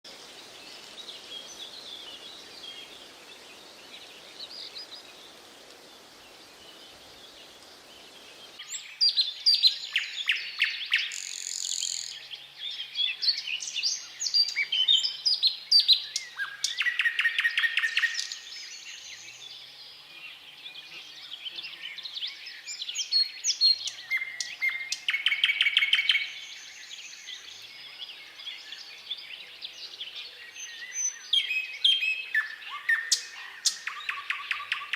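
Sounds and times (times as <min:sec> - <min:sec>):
background birdsong: 0:00.0 - 0:34.9
nightingale singing: 0:00.1 - 0:34.9.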